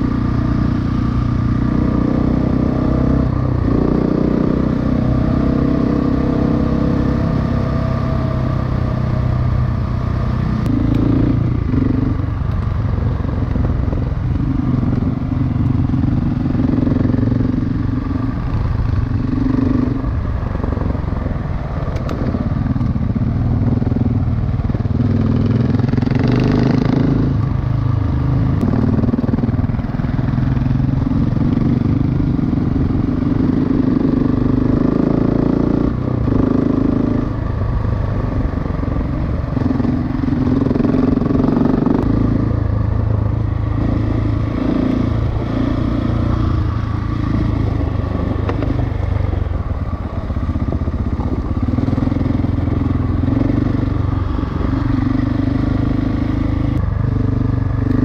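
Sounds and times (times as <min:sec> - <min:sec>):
motorcycle engine revving: 0:00.0 - 0:58.0
trail rumble and rattle: 0:00.0 - 0:58.0.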